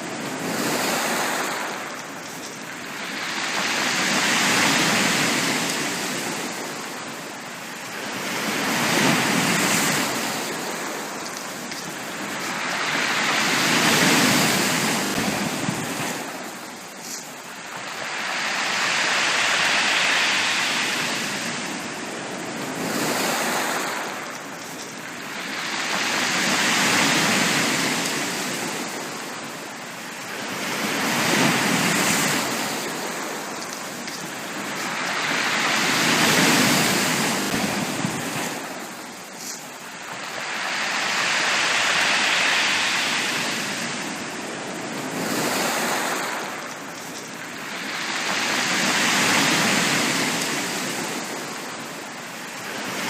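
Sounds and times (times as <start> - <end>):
sea waves breaking on beach: 0.0 - 53.0.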